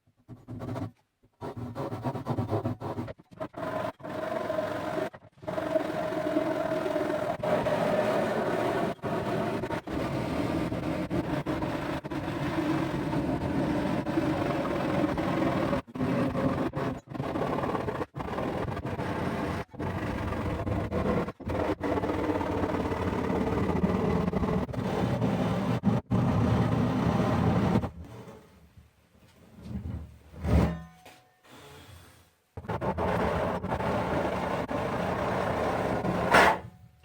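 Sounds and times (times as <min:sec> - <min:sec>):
handsaw cutting wood: 0:01.4 - 0:27.9, 0:32.6 - 0:36.7.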